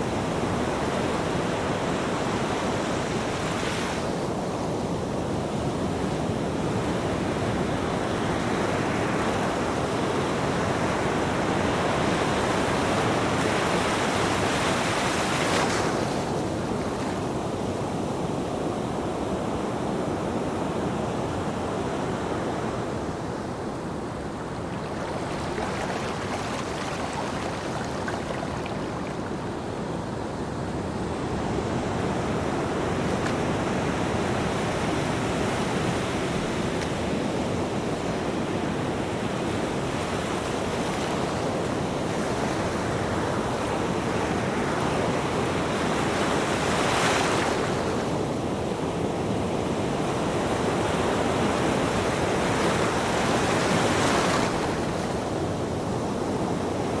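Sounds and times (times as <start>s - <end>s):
ocean waves on beach: 0.0s - 57.0s.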